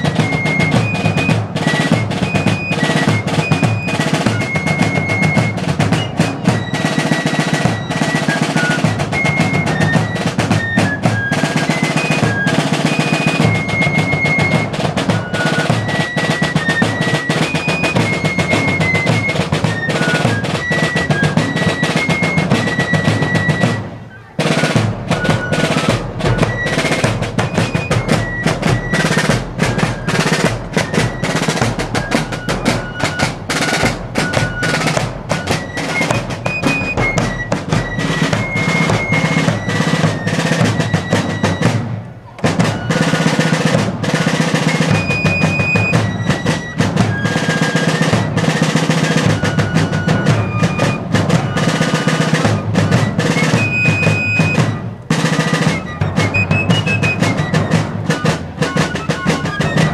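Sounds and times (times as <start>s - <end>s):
rolling snare drums: 0.0s - 59.9s.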